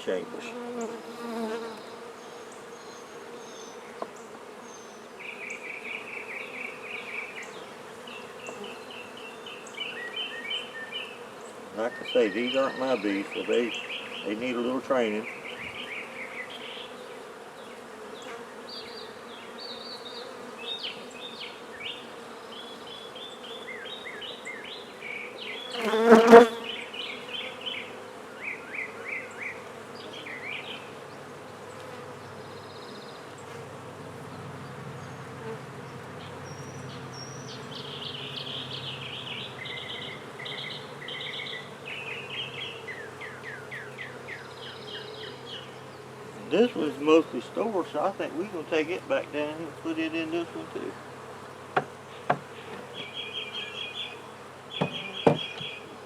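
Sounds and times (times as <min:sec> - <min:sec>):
bee buzzing close by: 0:00.0 - 0:56.0
bees humming around hive: 0:00.0 - 0:56.0.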